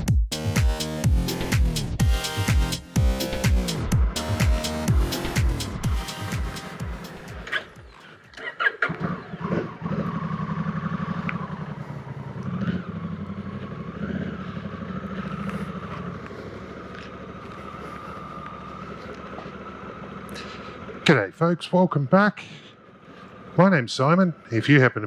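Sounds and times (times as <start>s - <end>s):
motorcycle engine idling: 1.0s - 24.8s.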